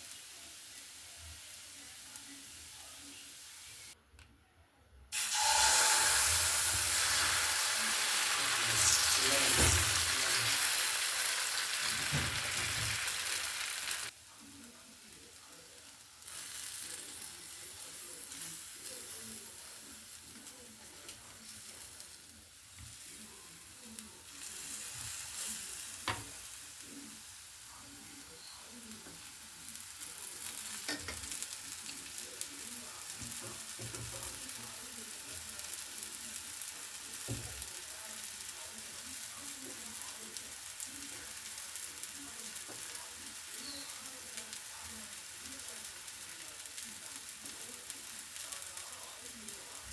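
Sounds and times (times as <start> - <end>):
food sizzling in a pan: 0.0 - 4.0, 5.2 - 49.9.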